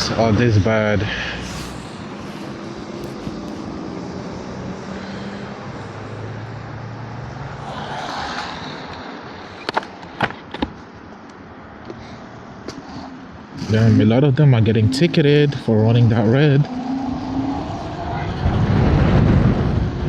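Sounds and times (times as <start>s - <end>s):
low vehicle hum: 0.0s - 20.0s
road and wind noise: 0.0s - 20.0s.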